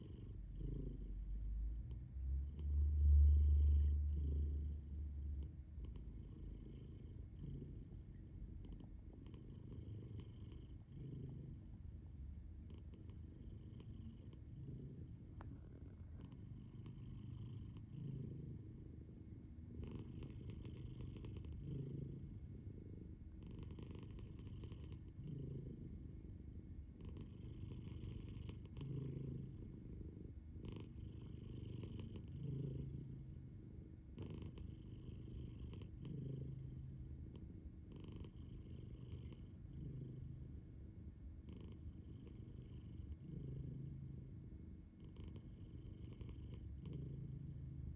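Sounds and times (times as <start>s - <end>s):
cat snoring: 0.0s - 12.0s, 12.6s - 40.8s, 41.4s - 47.9s.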